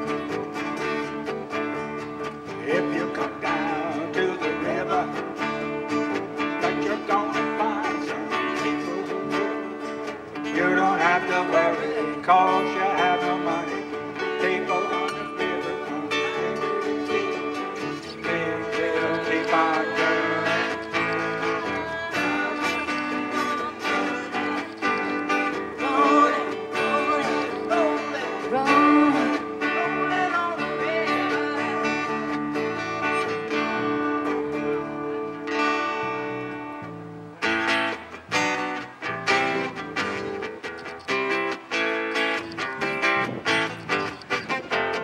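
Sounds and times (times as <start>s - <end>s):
band playing guitars: 0.0s - 45.0s.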